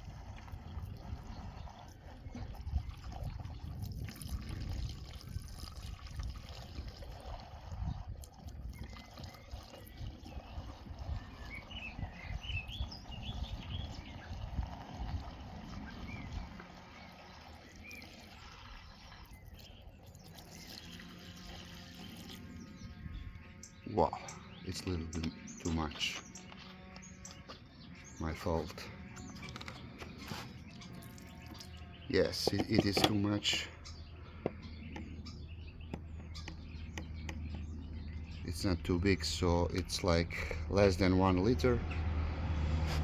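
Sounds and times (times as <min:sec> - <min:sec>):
fuel trickling into tank: 0:00.0 - 0:25.0, 0:28.3 - 0:43.0.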